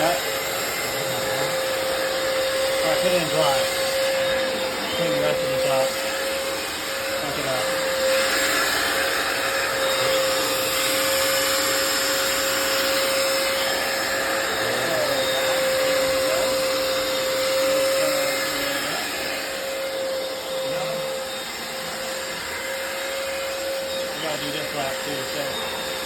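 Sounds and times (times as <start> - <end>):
floor cleaner suction motor whining: 0.0 - 26.0.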